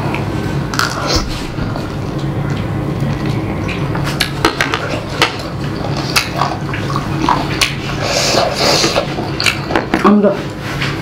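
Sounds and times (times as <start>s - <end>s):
chewing noodles: 0.7s - 9.8s.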